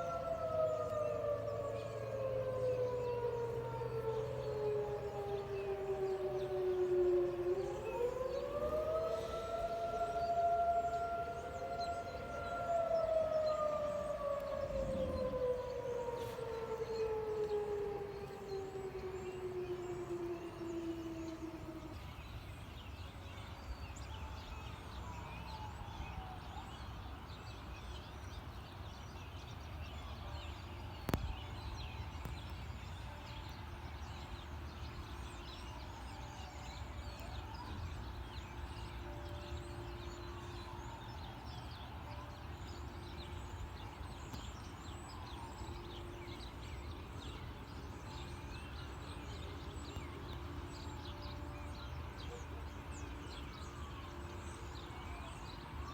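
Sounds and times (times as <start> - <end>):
birds chirping: 0.0 - 55.9
distant sirens wailing: 0.0 - 55.9.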